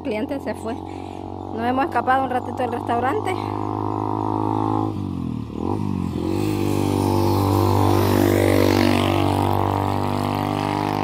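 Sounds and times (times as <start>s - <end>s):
motorcycle engine passing: 0.0s - 11.0s.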